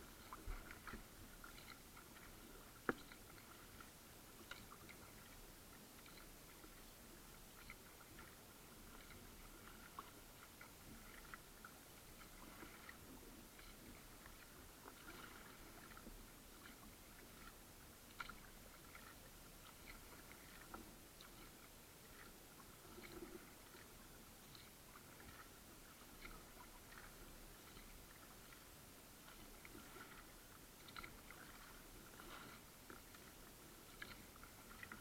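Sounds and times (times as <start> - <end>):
small water splashes: 0.0 - 6.8, 7.5 - 35.0.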